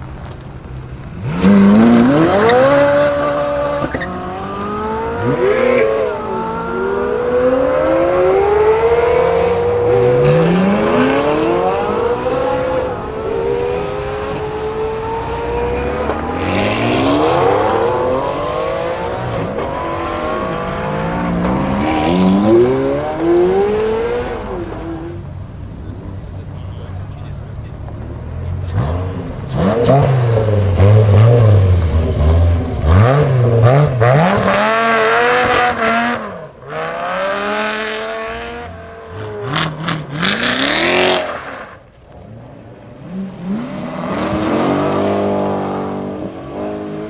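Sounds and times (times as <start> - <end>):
supercar engines accelerating: 0.0 - 47.0.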